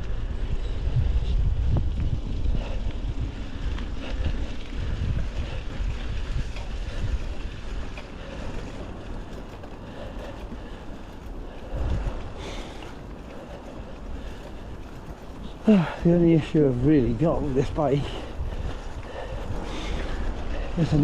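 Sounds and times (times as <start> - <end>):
bike tyre and trail noise: 0.0 - 21.0
wind rumbling on microphone: 0.0 - 21.0
faint ticks and rattles: 1.7 - 21.0.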